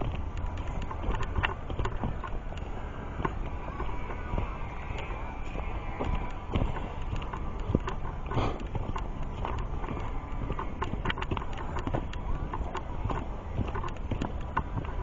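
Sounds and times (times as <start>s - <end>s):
footsteps crunching on dirt trail: 0.0s - 15.0s
steady low rumble: 0.0s - 15.0s.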